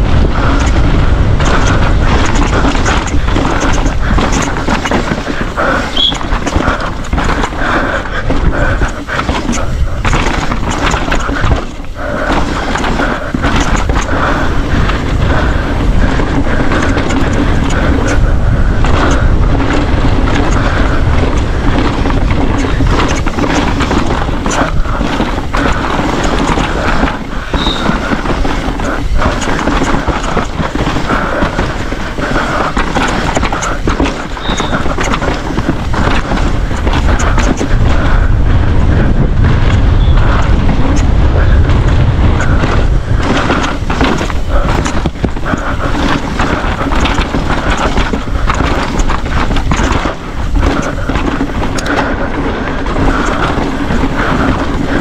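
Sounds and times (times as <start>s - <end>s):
bike knocking and rattling: 0.0s - 55.0s
bike tyres on dirt: 0.0s - 55.0s
wind rumble on microphone: 0.0s - 55.0s.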